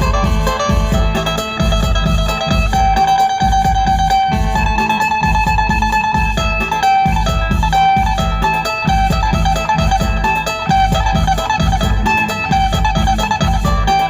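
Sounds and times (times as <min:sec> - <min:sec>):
plucked lute notes: 0:00.0 - 0:14.0
steady low beat: 0:00.0 - 0:14.0.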